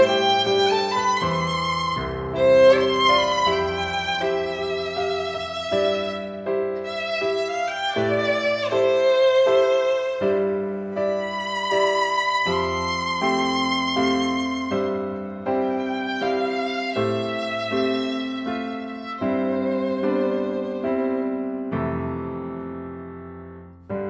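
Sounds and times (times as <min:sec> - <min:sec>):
violin playing slow melody: 0:00.0 - 0:22.6.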